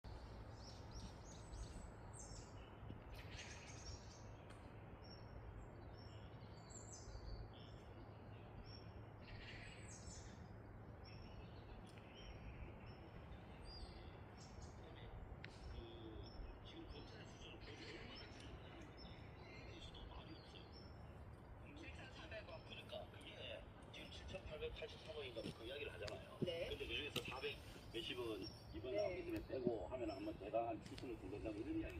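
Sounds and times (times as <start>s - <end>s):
faint birdsong: 0.0s - 31.9s
low steady hum: 0.1s - 31.9s.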